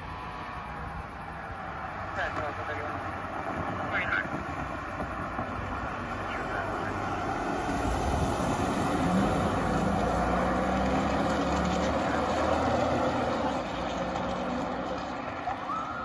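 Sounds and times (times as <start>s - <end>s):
road noise: 0.0s - 16.0s
vehicle engine: 0.0s - 16.0s.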